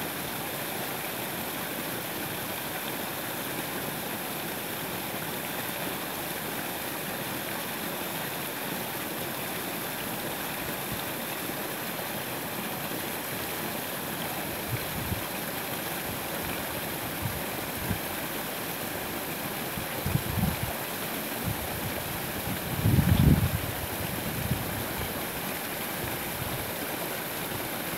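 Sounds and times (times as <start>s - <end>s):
waterfall rushing splash: 0.0s - 27.9s.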